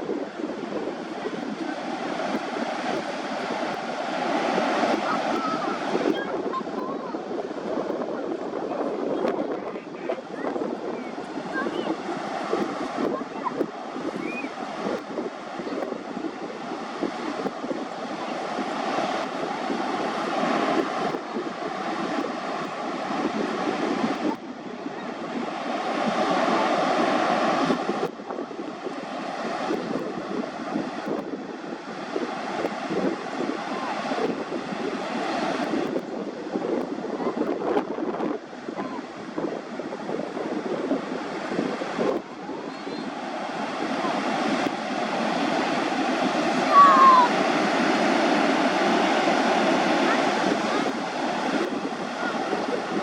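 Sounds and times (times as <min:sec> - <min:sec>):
ocean surf washing onto beach: 0:00.0 - 0:53.0
rushing wind: 0:00.0 - 0:53.0.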